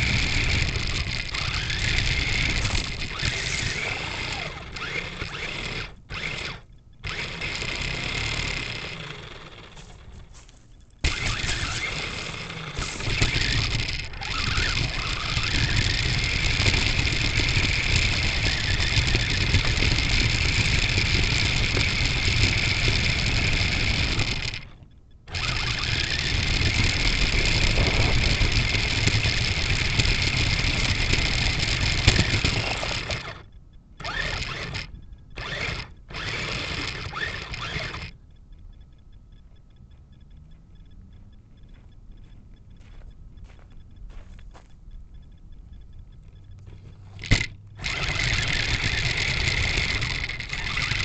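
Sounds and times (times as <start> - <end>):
electric motor whining: 0.0 - 38.2, 46.4 - 51.0
rattle from rough gravel: 0.0 - 38.2, 40.7 - 51.0.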